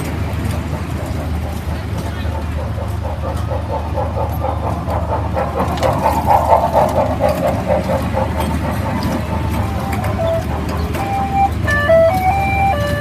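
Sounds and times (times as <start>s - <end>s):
ride machinery pulsing hum: 0.0s - 13.0s.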